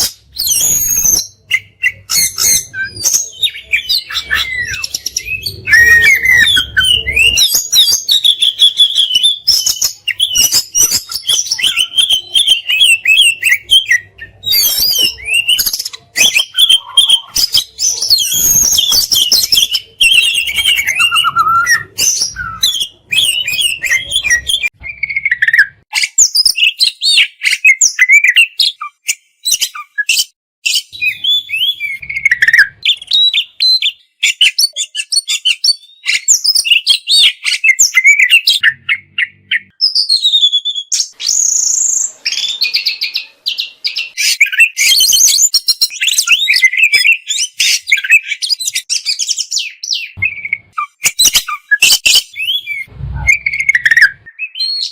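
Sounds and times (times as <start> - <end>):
bird singing whistles and chirps: 0.0 - 54.9.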